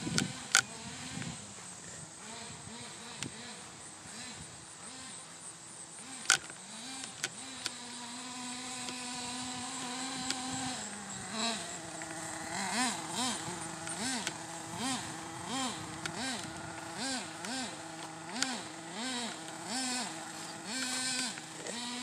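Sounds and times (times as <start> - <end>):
small nitro engine revving: 0.0 - 22.0.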